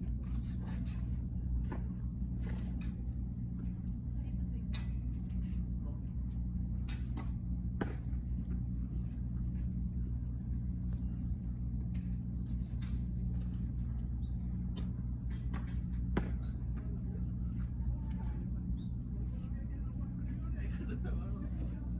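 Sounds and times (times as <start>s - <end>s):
low background rumble: 0.0s - 21.9s.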